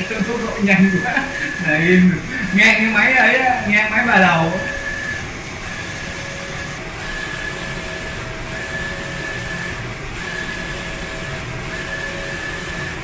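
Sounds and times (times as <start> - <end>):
high motor whine: 0.0 - 13.0
printer mechanical whirr: 0.0 - 13.0.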